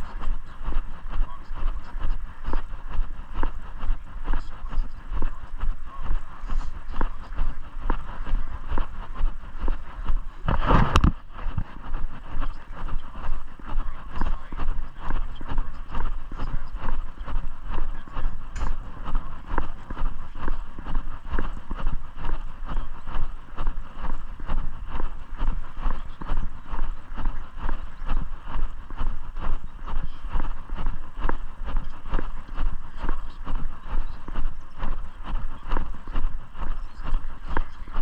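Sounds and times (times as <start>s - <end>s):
footsteps walking: 0.0s - 38.0s
low steady rumble: 0.0s - 38.0s.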